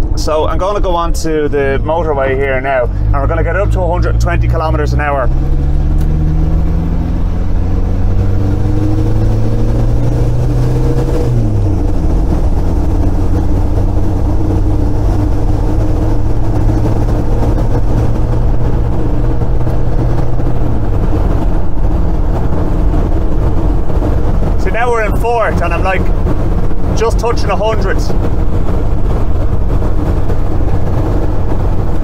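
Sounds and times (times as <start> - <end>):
diesel engine accelerating: 0.0 - 32.0
road noise: 0.0 - 32.0.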